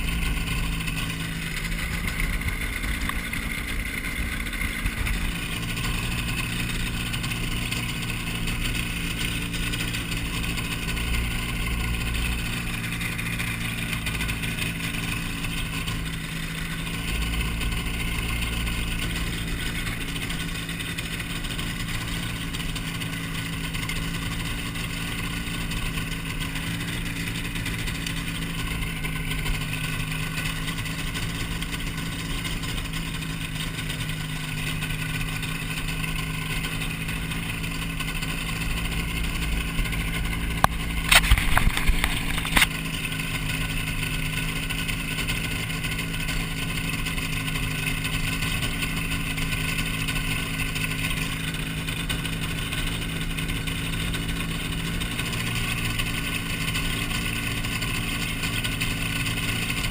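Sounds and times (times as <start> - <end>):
aircraft engine droning: 0.0 - 25.1, 25.7 - 59.9.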